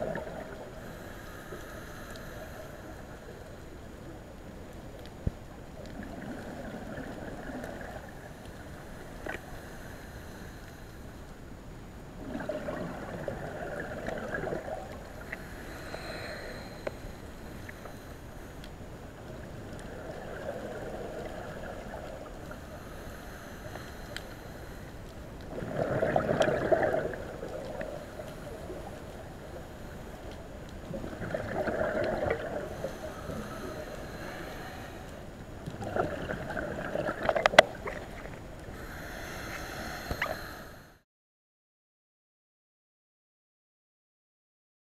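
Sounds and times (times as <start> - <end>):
underwater bubbling exhaled air: 0.0 - 10.8, 12.1 - 41.0
steady underwater hiss: 0.0 - 41.0.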